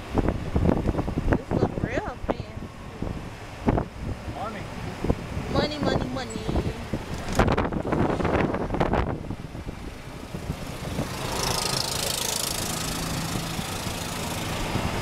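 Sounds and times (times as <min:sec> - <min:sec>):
golf cart engine humming: 0:00.0 - 0:15.0
road noise: 0:00.0 - 0:15.0
wind: 0:00.0 - 0:15.0.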